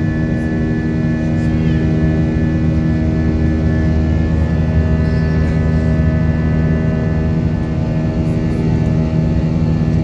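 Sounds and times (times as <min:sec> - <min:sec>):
jet engine drone in cabin: 0:00.0 - 0:10.0.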